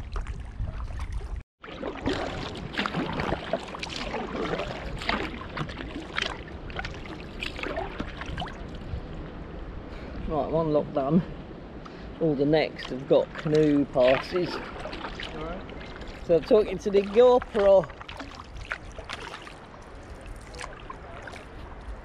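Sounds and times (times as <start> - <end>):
paddle strokes splashing: 0.0 - 9.1, 11.9 - 22.0
water sloshing against hull: 0.0 - 22.0.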